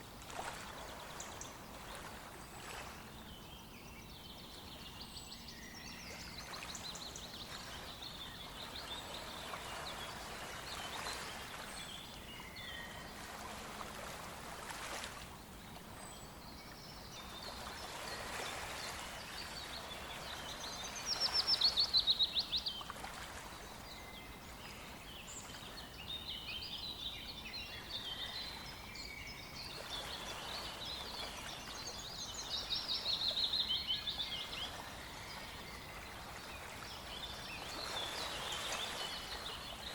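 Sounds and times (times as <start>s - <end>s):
small river rushing: 0.0s - 3.3s, 4.6s - 39.9s
songbirds singing: 0.0s - 39.9s.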